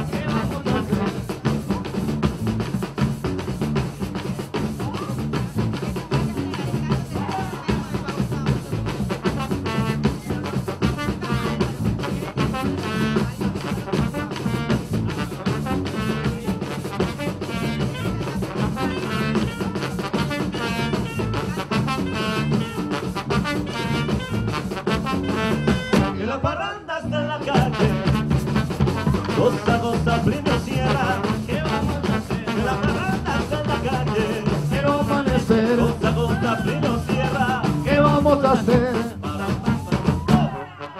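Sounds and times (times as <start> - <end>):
live band playing dance music: 0.0 - 40.9.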